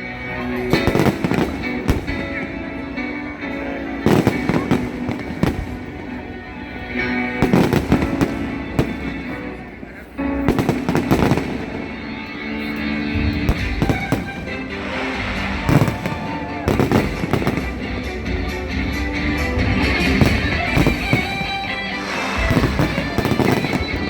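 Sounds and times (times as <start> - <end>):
music with held notes: 0.0 - 24.0
fireworks banging: 0.5 - 24.0.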